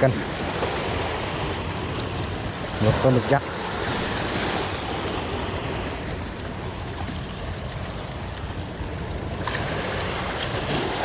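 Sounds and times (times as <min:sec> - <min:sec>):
sea waves washing: 0:00.0 - 0:11.0.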